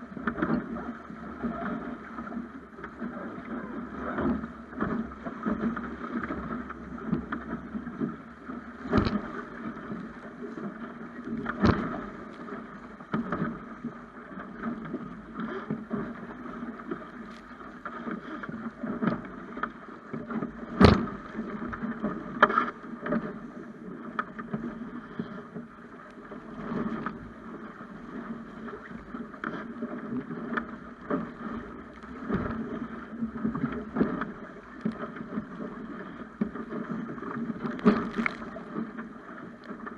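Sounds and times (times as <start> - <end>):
water rushing along a hull: 0.0 - 39.9.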